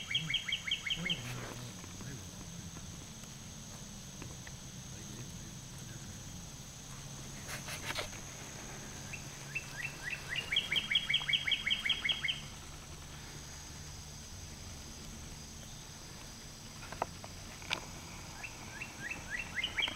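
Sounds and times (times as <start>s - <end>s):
faint low hum: 0.0s - 19.9s
songbird chirping: 0.0s - 19.9s.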